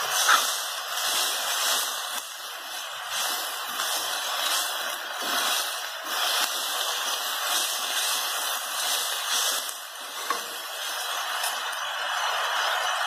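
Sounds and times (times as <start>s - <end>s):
leaves sizzling in a wok: 0.0s - 13.0s.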